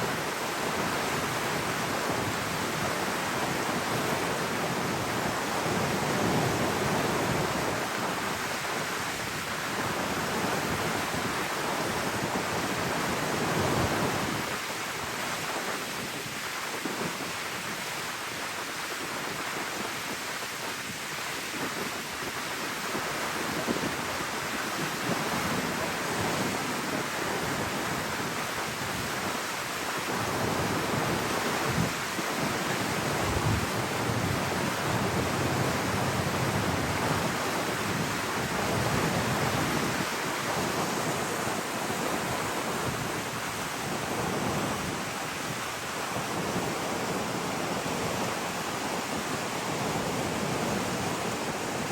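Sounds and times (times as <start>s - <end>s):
water rushing: 0.0s - 51.9s
wind gusts on microphone: 0.0s - 51.9s.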